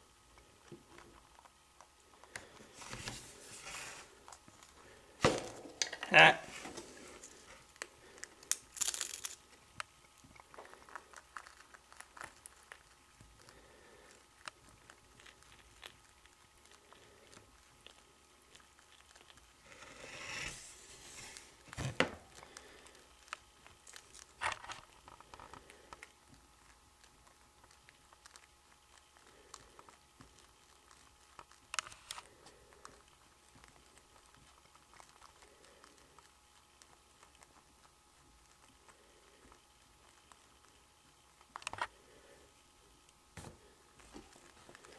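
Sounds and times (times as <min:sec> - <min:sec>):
chinchilla gnawing and crunching: 0:00.0 - 0:44.9.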